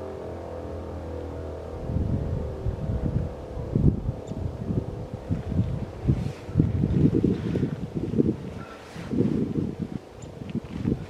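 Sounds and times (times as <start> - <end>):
wind buffeting microphone: 1.7 - 11.0.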